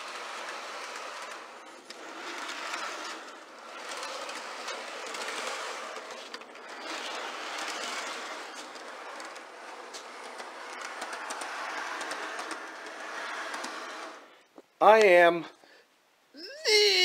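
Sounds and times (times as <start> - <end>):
model train wheels rattling on track: 0.0 - 14.4.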